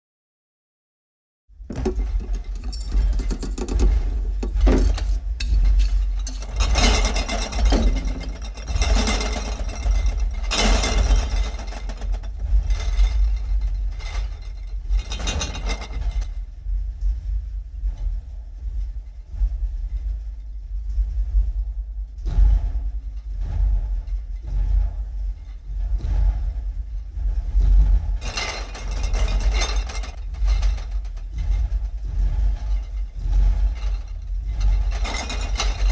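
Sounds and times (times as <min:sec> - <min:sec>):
deep rumble: 0:01.5 - 0:35.9.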